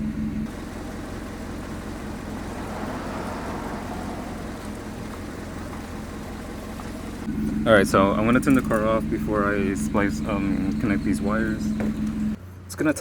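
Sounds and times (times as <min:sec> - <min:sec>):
car engine idling: 0:00.0 - 0:12.4.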